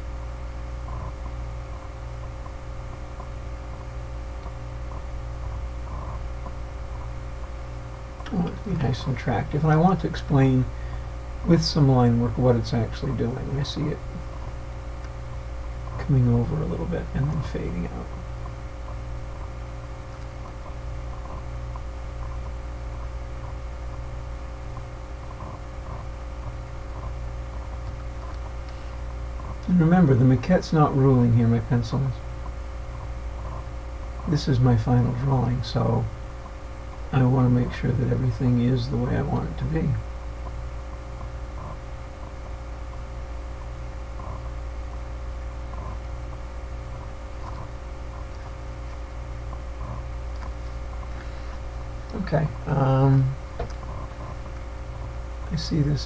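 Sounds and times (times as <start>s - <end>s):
faint microphone hiss: 0.0s - 56.0s
low hum: 0.0s - 56.0s.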